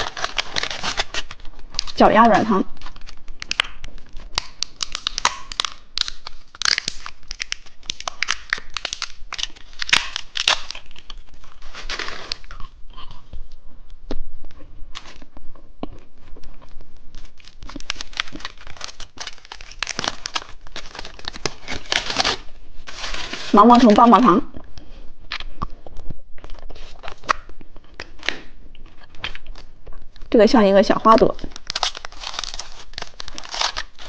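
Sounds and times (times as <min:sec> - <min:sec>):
plastic wrapper crinkling: 0:00.0 - 0:13.6, 0:16.0 - 0:24.4, 0:25.3 - 0:34.0.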